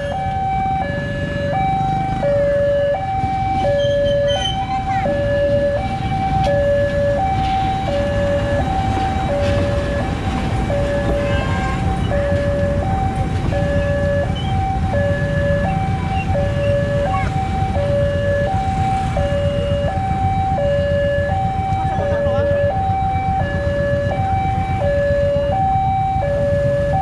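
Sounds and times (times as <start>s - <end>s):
two-tone crossing alarm: 0.0s - 27.0s.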